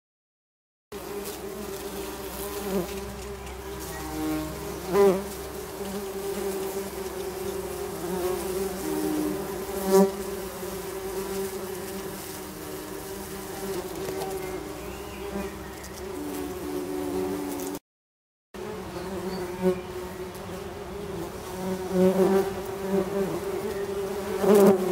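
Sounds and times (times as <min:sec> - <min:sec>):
bumblebees buzzing: 0:00.9 - 0:17.8, 0:18.6 - 0:24.9
single bee buzzing close by: 0:00.9 - 0:17.8, 0:18.6 - 0:24.9.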